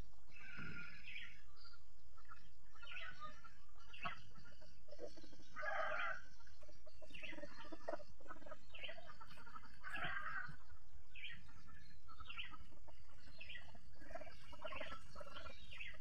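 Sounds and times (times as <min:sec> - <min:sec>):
chicken clucking: 0:00.3 - 0:16.0.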